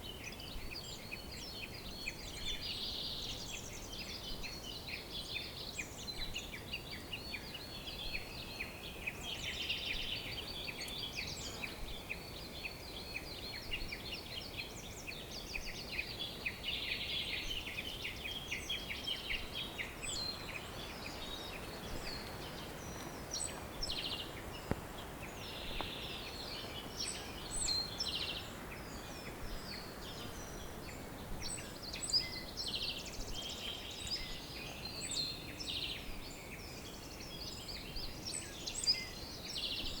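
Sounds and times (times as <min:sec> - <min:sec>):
faint steady hiss: 0:00.0 - 0:40.0
songbirds chirping: 0:00.0 - 0:40.0.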